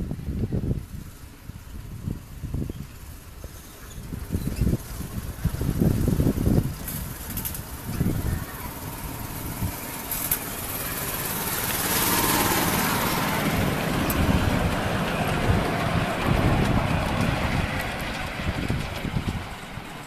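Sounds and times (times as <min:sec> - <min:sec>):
train wheels rumbling on rails: 0:00.0 - 0:20.0
wind buffeting microphone: 0:00.0 - 0:20.0.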